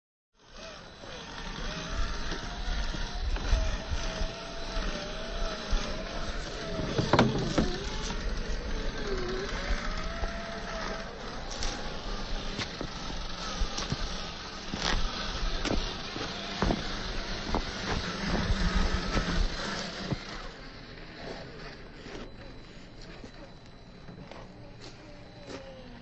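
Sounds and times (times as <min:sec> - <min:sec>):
electric motor whining: 0:00.4 - 0:26.0.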